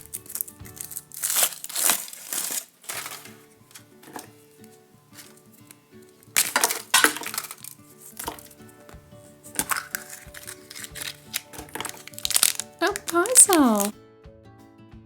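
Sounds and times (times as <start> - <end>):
chocolate egg cracking: 0.0 - 4.4, 6.2 - 13.9
quiet background music: 0.0 - 15.0.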